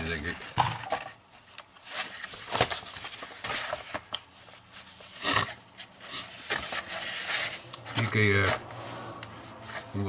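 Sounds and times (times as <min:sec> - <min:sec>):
paper sheets rustling: 0:00.1 - 0:10.0.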